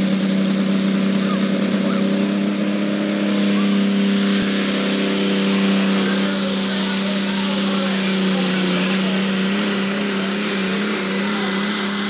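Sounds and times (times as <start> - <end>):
diesel engine running loud: 0.0 - 12.0
high turbocharger whine: 0.0 - 12.0.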